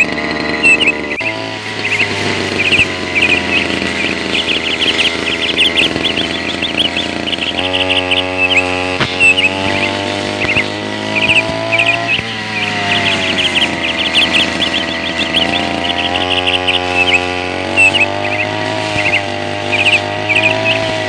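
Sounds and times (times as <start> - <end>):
birds chirping: 0.0 - 21.0
brush cutter engine running: 0.0 - 21.0.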